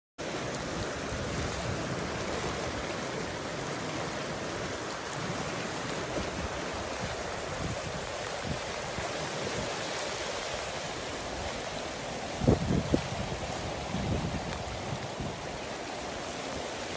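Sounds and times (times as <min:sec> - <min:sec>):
floodwater rushing: 0:00.2 - 0:16.9.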